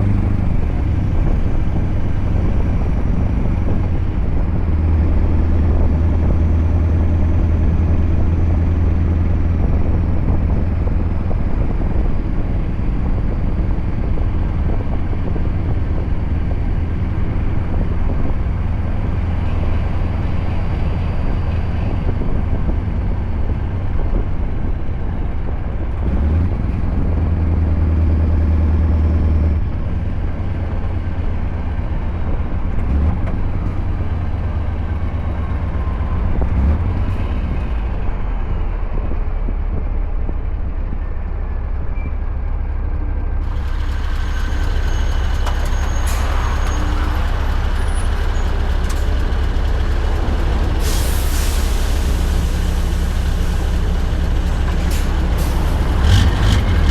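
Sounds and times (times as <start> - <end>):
truck engine droning: 0.0 - 56.9.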